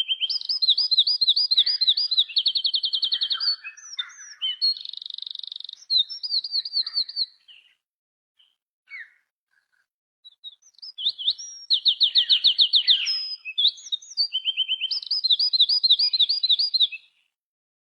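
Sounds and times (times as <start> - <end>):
songbird singing: 0.0 - 7.8, 8.4 - 17.4.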